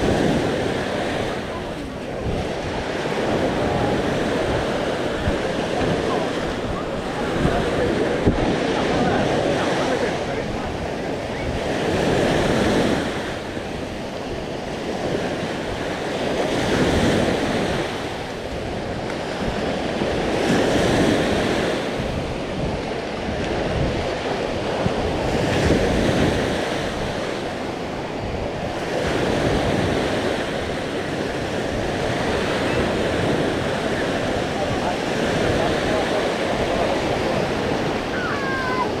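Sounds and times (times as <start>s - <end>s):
sea waves breaking on shore: 0.0s - 39.0s
wind buffeting microphone: 0.0s - 39.0s.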